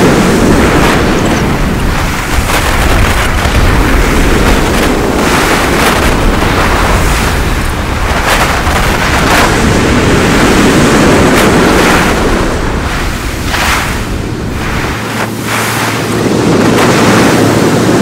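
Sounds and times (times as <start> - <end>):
waves breaking on pebbles: 0.0 - 16.2
wind buffeting microphone: 0.0 - 18.0.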